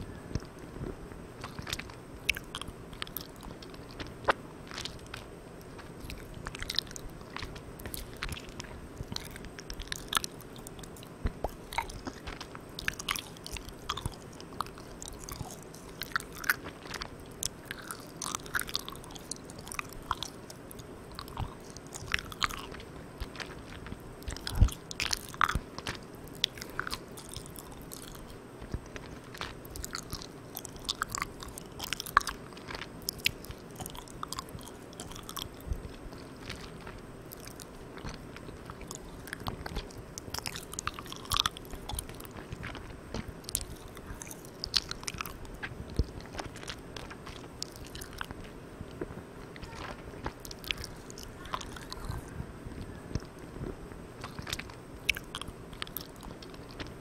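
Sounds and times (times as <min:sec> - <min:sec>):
chewing sticky candy: 0:00.0 - 0:57.0
recorder hiss: 0:00.0 - 0:57.0.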